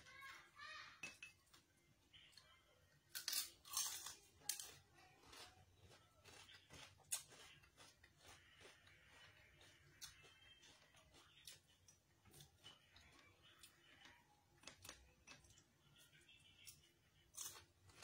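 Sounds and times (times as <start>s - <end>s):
crunching and chewing fried chicken: 1.5s - 18.0s.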